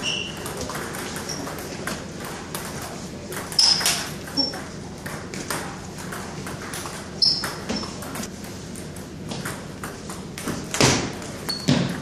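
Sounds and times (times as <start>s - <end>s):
table tennis ball rally: 0.0s - 12.0s.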